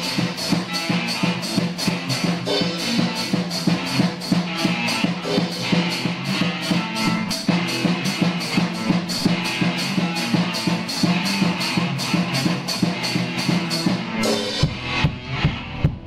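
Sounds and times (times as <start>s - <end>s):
drum kit beat with cymbals: 0.0s - 16.0s
low electric guitar riff: 0.0s - 16.0s.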